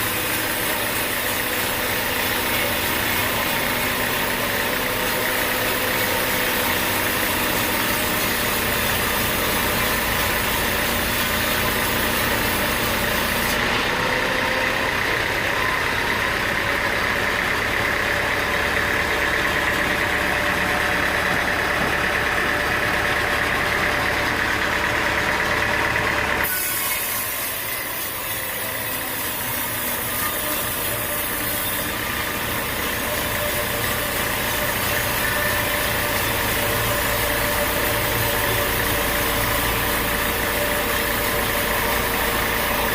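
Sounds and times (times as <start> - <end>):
engine-driven machinery running: 0.0 - 42.9.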